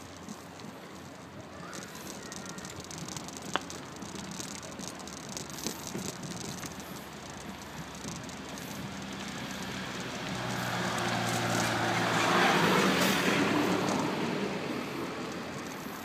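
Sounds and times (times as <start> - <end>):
bicycle rattles and clicks: 0.0 - 16.0
tyre and wind noise: 0.0 - 16.0.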